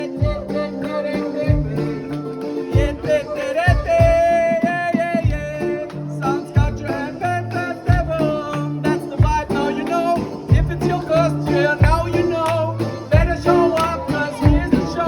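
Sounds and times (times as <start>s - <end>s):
handpan melody: 0.0s - 4.3s, 5.2s - 15.0s
person singing: 0.0s - 15.0s.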